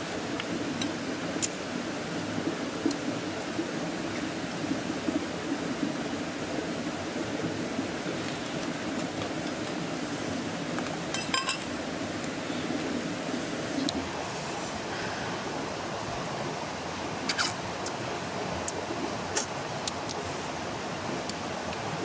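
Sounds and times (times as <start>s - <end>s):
river flowing over rocks: 0.0s - 22.0s.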